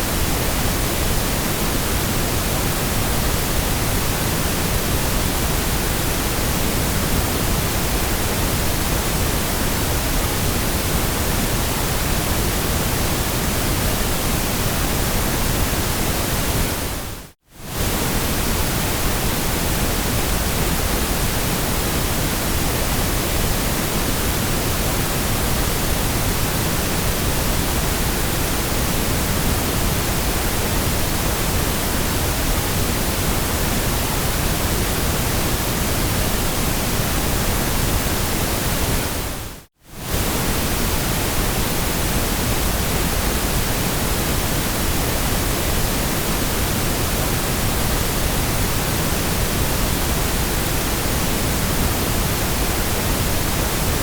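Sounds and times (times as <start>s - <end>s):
white noise hissing: 0.0s - 54.0s.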